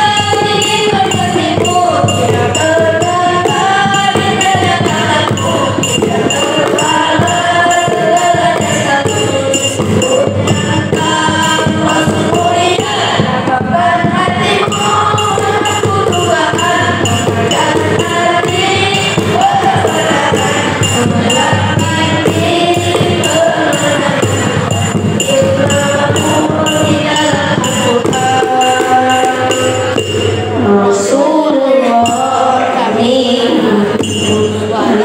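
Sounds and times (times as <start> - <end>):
boys singing into microphones: 0.0 - 35.0
hand percussion beat: 0.0 - 35.0.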